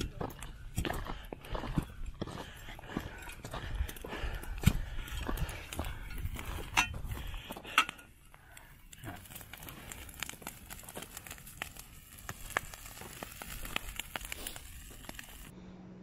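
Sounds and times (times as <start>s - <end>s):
dry grass burning with crackles: 0.0s - 15.5s.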